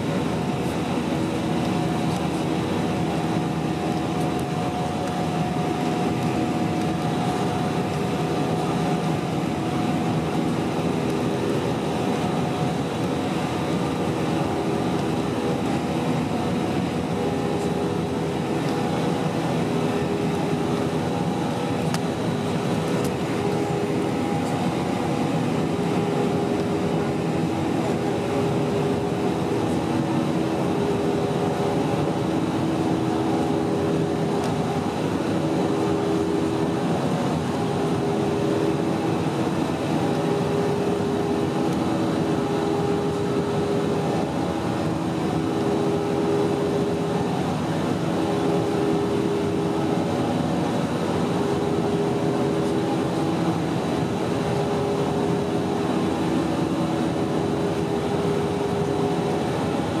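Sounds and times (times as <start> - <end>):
jet engines in airplane cabin: 0.0 - 60.0.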